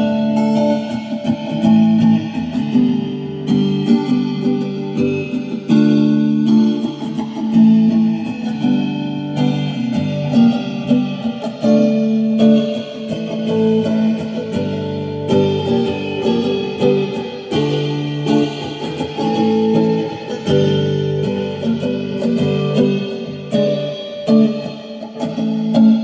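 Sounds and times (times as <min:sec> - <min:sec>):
guitar playing: 0:00.0 - 0:26.0.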